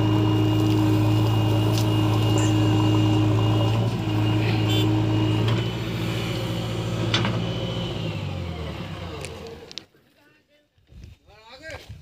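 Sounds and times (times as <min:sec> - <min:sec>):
diesel engine under load: 0:00.0 - 0:09.9.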